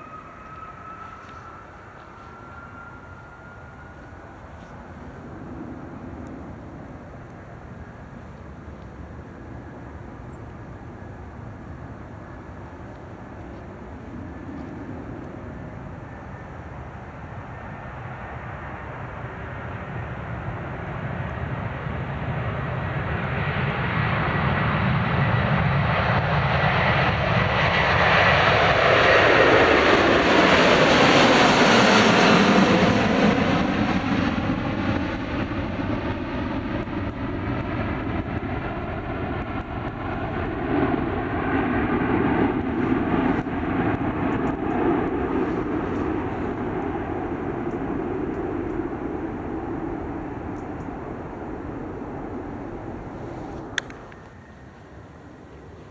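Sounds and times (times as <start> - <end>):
jet airliner passing: 0.0 - 55.9.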